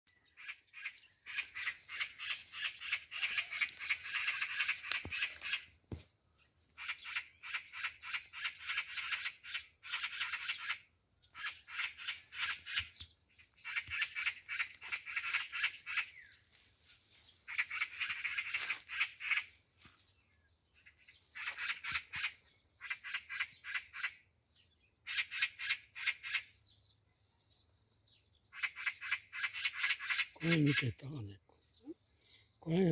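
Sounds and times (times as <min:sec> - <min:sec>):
magpies alarm chatter: 0:00.2 - 0:05.7, 0:06.8 - 0:16.5, 0:17.2 - 0:19.6, 0:20.8 - 0:27.0, 0:28.1 - 0:31.2.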